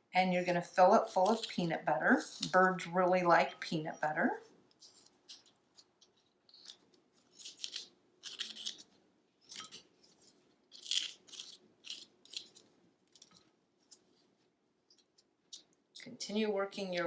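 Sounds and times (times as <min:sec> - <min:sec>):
scraping and rustling strokes: 0:00.8 - 0:15.7.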